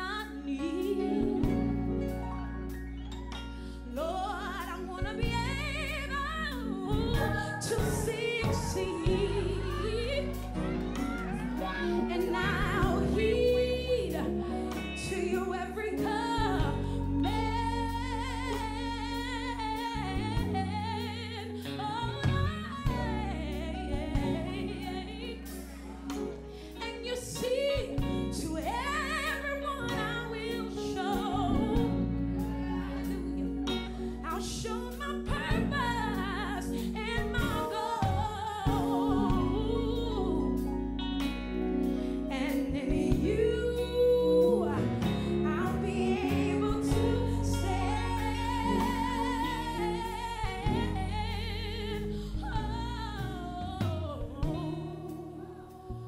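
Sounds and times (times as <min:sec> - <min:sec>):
woman singing gospel: 0:00.0 - 0:56.0.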